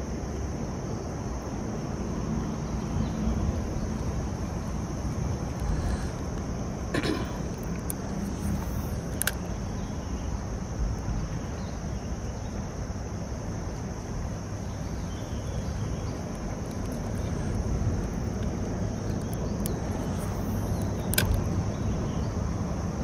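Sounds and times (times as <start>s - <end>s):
high insect buzz: 1.3s - 23.0s.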